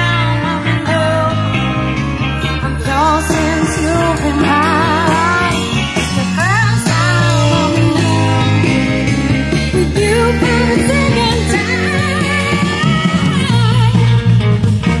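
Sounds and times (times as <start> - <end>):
person singing with vibrato: 0.0 - 14.1
band playing: 0.0 - 15.0.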